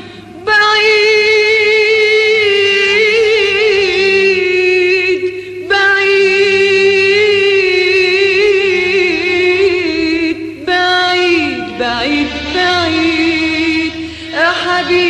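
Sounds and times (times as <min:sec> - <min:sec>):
singer holding a wavering note: 0:00.0 - 0:15.0.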